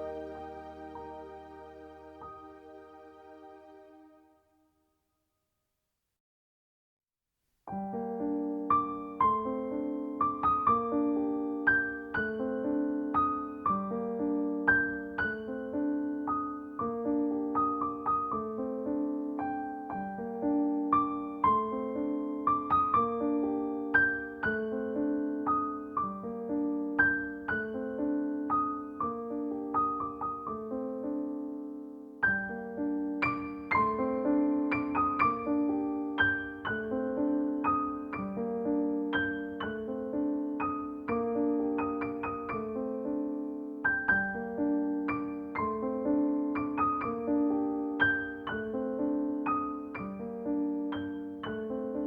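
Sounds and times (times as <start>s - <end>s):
gentle solo piano music: 0.0s - 3.9s, 7.7s - 52.0s.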